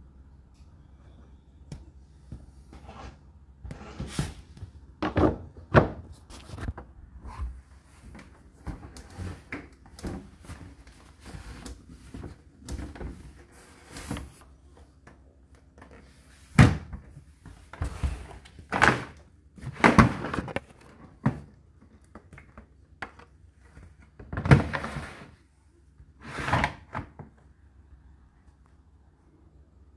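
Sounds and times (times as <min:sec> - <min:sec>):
faint low hum: 0:00.0 - 0:26.2, 0:27.0 - 0:29.9.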